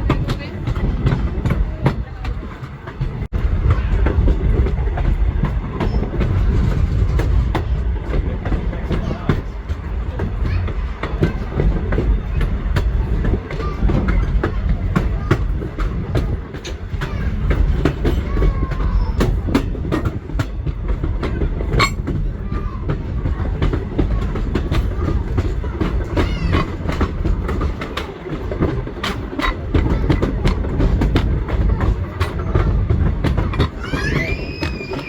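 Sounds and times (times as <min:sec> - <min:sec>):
train rumbling along track: 0:00.0 - 0:35.0
wheels clicking over rail joints: 0:00.0 - 0:35.0.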